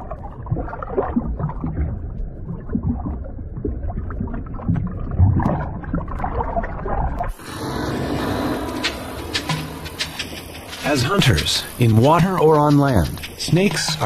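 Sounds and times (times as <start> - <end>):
underwater sloshing and bubbling: 0.0 - 14.0.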